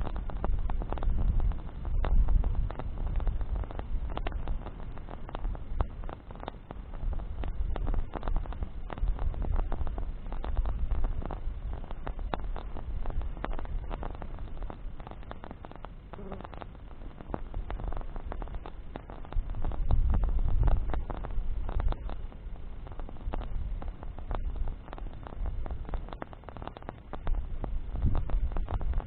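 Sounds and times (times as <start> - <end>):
bonfire crackling and popping: 0.0 - 29.0
low fire rumble: 0.0 - 29.0.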